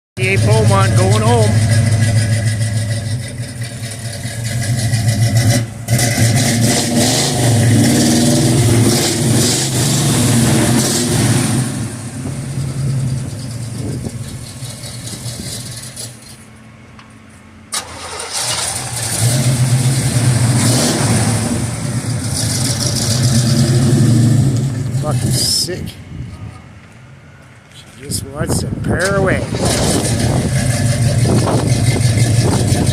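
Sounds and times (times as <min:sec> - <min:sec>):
loud car engine revving: 0:00.2 - 0:16.2, 0:17.8 - 0:25.9, 0:28.9 - 0:32.9.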